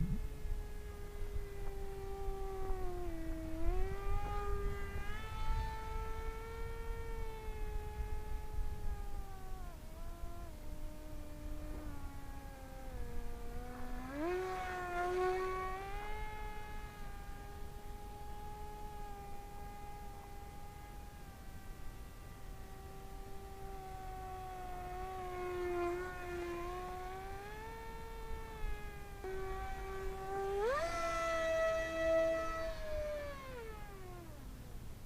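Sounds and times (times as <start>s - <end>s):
rc plane motor whining: 0.0s - 35.0s.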